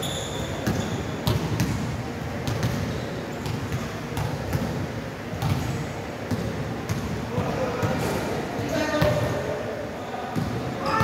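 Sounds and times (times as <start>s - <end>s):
basketballs bouncing on court: 0.5s - 9.4s, 10.4s - 11.0s.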